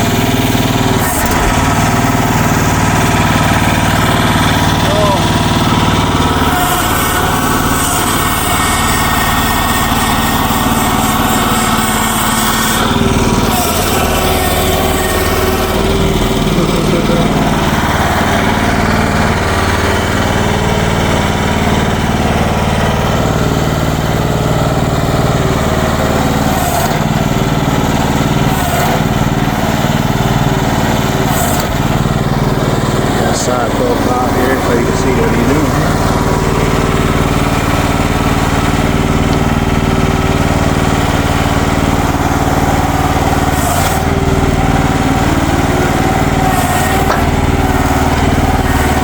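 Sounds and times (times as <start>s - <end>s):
mini excavator engine running: 0.0s - 49.0s.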